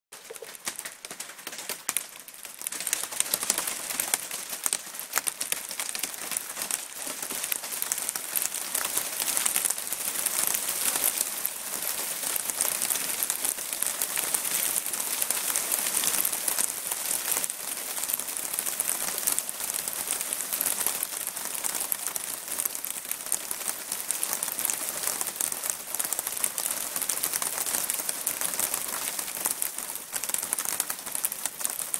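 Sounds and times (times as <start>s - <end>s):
hail on a clay-tile roof: 0.1s - 31.9s.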